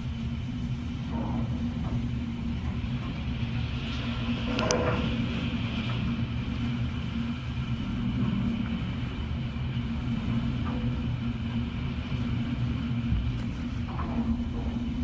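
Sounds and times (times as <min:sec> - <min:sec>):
low hum: 0:00.0 - 0:15.0
wind and rain against building: 0:00.0 - 0:15.0.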